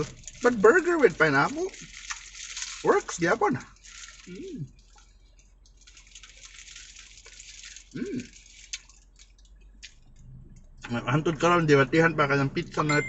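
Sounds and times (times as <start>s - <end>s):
close-up chewing: 0.0s - 10.9s.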